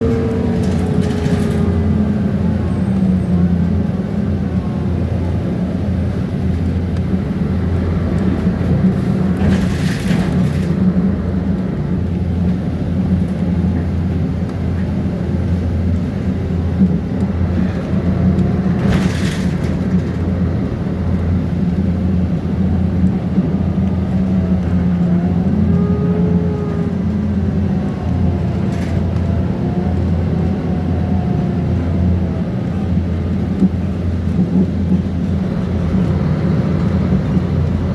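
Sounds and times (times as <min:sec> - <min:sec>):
bus diesel engine droning: 0:00.0 - 0:37.9
squeaks and whines of bus body: 0:00.0 - 0:37.9.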